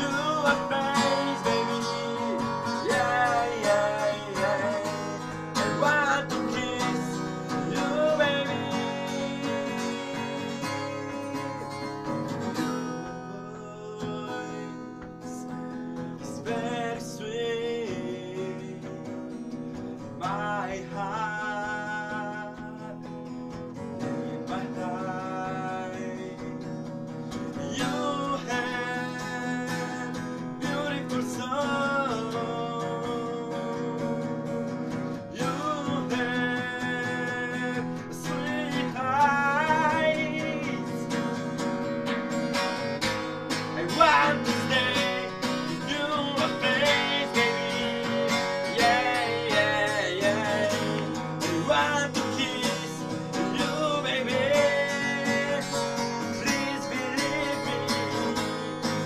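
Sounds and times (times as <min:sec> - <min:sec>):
man singing: 0:00.0 - 0:41.6, 0:43.0 - 0:59.0
strummed acoustic guitar: 0:00.0 - 0:59.0.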